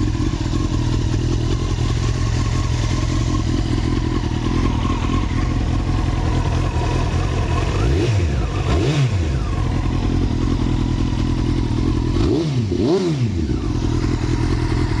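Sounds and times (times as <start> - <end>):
motorcycle engine idling: 0.0 - 15.0
motorcycle throttle revving: 0.0 - 15.0.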